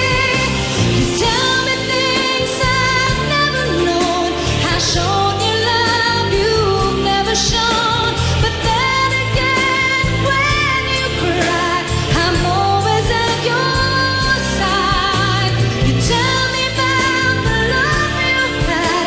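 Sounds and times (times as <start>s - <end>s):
band accompaniment: 0.0s - 19.0s.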